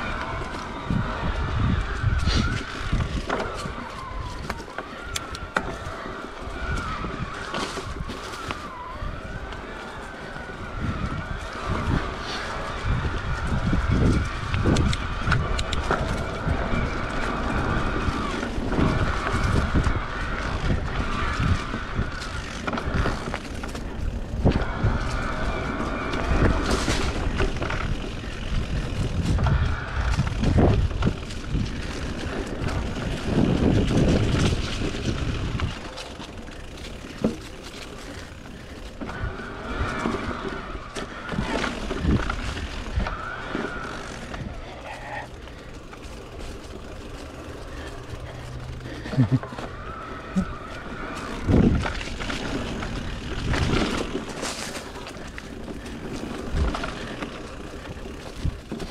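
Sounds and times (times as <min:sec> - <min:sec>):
bike knocking and rattling: 0:00.0 - 0:58.9
rumble on microphone: 0:00.0 - 0:58.9
tyres crunching on dirt trail: 0:00.0 - 0:58.9.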